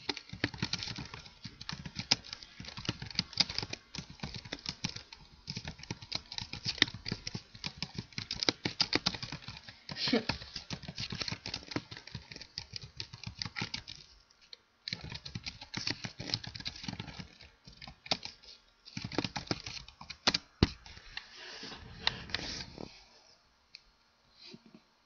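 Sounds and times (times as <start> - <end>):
computer keyboard typing: 0.0 - 14.2, 14.9 - 21.0.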